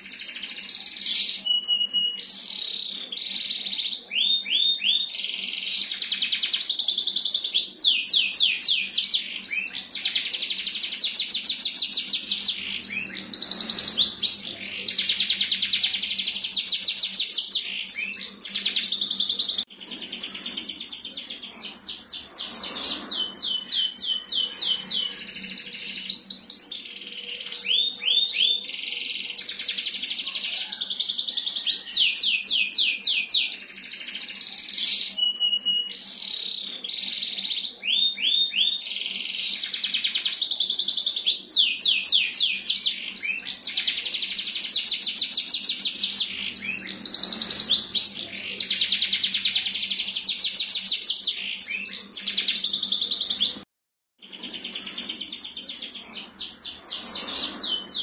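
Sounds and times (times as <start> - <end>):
canary singing: 0.0 - 53.6, 54.2 - 58.0.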